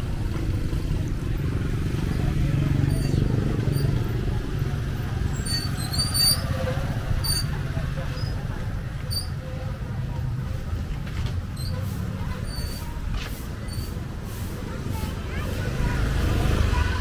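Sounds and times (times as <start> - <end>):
indistinct voices: 0.0 - 17.0
low engine rumble: 0.0 - 17.0.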